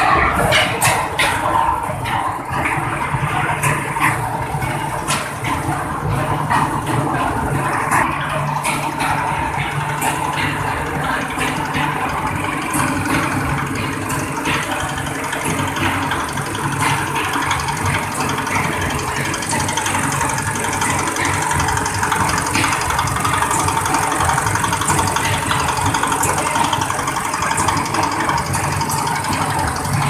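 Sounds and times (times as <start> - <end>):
machine mechanical drone: 0.0 - 30.0.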